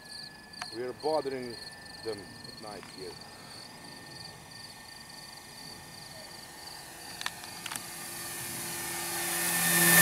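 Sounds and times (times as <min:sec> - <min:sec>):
crickets chirping: 0:00.0 - 0:09.8
model plane motor and propeller: 0:00.0 - 0:10.0.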